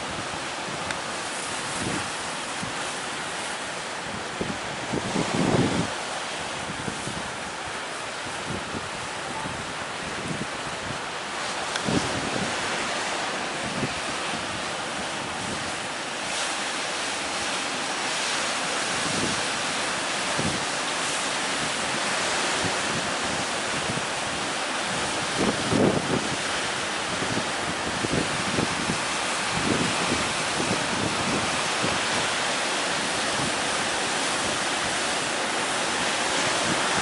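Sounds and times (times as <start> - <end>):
wind buffeting microphone: 0.0 - 16.1, 21.5 - 37.0
ocean surf breaking: 0.0 - 37.0.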